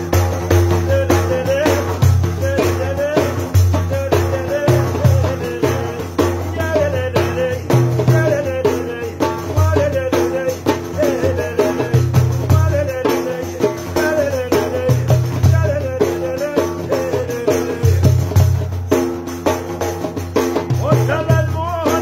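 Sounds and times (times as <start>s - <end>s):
frame drum with jingles: 0.0s - 22.0s.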